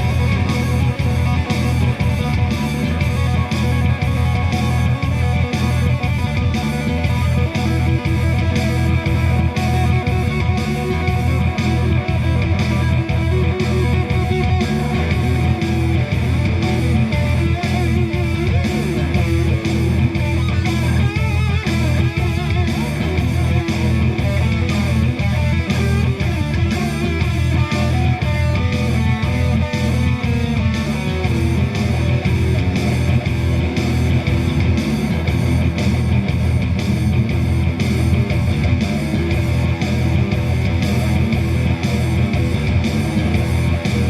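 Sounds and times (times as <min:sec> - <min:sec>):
bass guitar: 0:00.0 - 0:44.0
drum beat: 0:00.0 - 0:44.0
electric guitar: 0:00.0 - 0:44.0.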